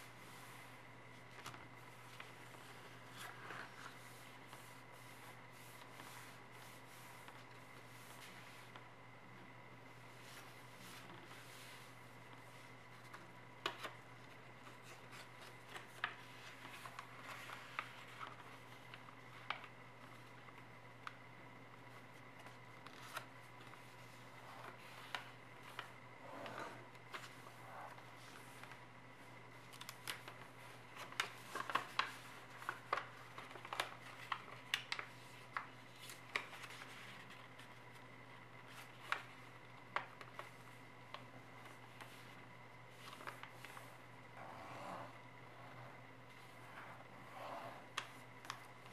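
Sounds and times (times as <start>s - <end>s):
paper rustling and crinkling: 0.0s - 8.9s, 10.0s - 21.2s, 21.9s - 26.0s, 29.5s - 44.1s, 47.9s - 48.9s
faint steady hum: 0.0s - 48.9s.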